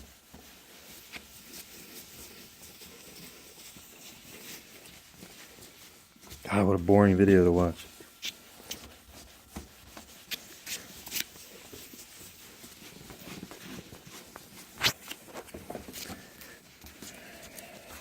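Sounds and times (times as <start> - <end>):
cloth rubbing plastic: 0.0 - 18.0.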